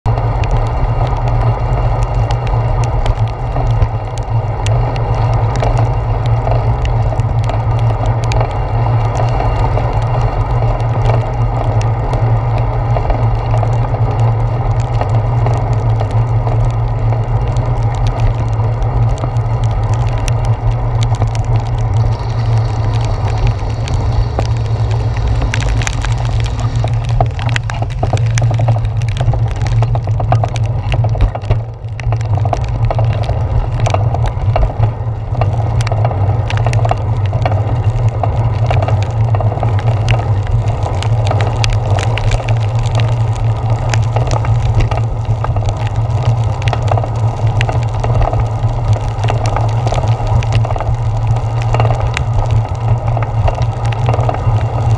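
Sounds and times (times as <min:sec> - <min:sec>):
bicycle rolling on wet pavement: 0:00.0 - 0:54.9
raindrops tapping on plastic: 0:00.1 - 0:54.9.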